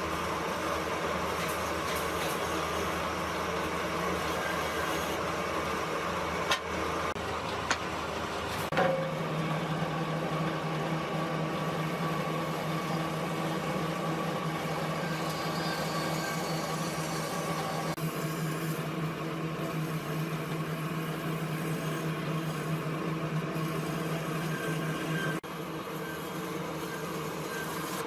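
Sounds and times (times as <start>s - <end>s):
machine motor running: 0.0s - 28.0s.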